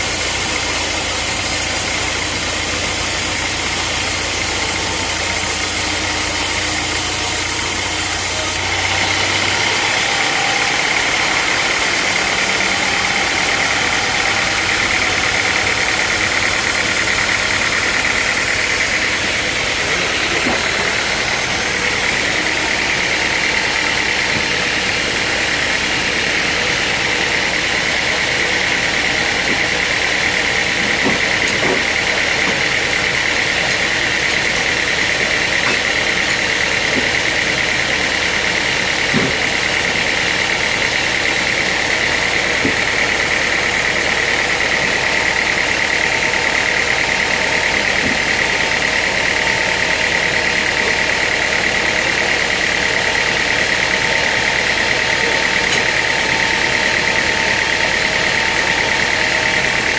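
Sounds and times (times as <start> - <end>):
sawmill machinery engine hum: 0.0 - 59.9
steady high whine: 0.0 - 59.9.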